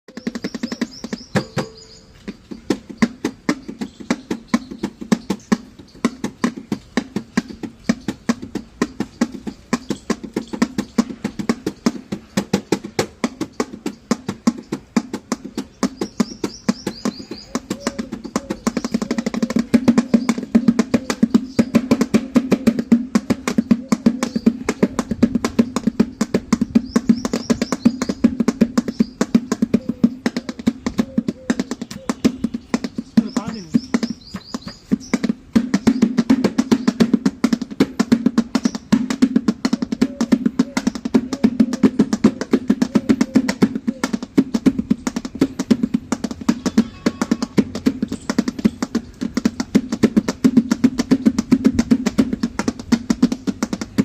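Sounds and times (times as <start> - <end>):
fast dhol drumming: 2.6 - 54.0.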